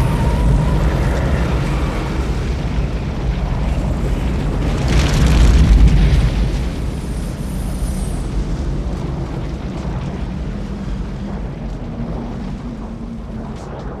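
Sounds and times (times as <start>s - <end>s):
explosion rumble: 0.0s - 14.0s.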